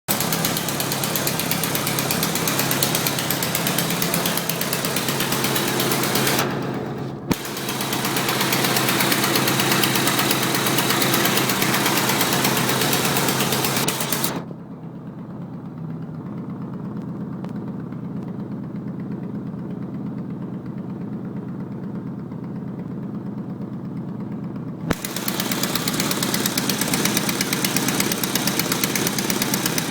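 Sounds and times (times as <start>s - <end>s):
engine idling with ticking exhaust leak: 0.1s - 29.9s.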